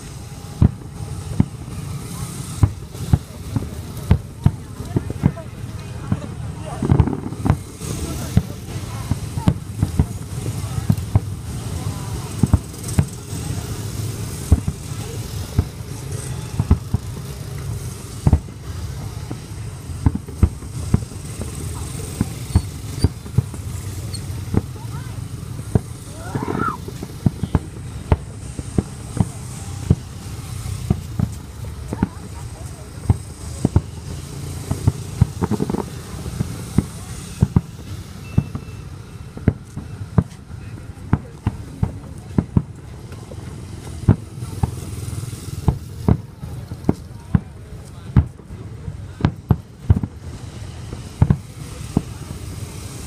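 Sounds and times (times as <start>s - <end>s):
fireworks booming: 0.0s - 53.0s
hubbub of voices: 0.0s - 53.0s.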